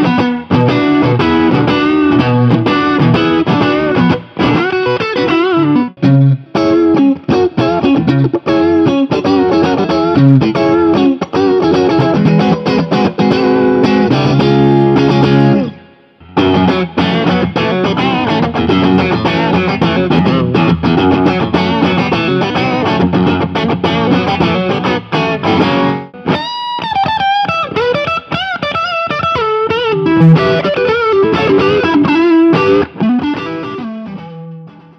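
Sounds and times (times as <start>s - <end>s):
overdriven electric guitar: 0.0s - 34.9s.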